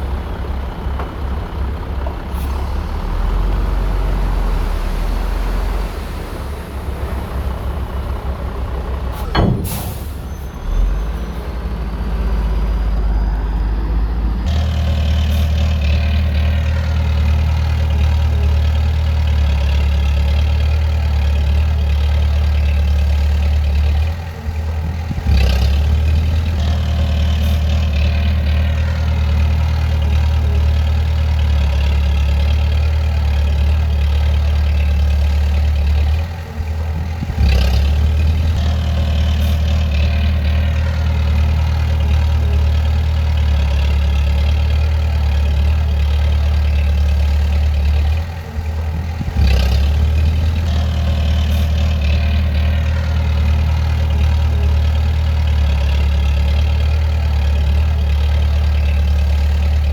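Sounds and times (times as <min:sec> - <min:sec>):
diesel machine engine running: 0:00.0 - 0:59.9.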